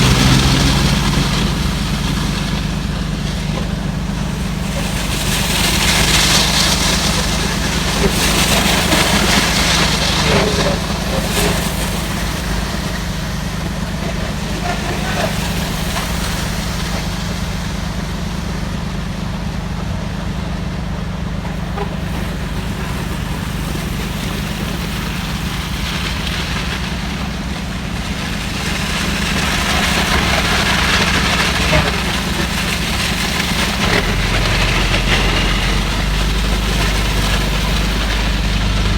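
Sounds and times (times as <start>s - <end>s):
heavy truck engine idling: 0.0s - 38.9s
traffic swishing on wet road: 0.0s - 38.9s.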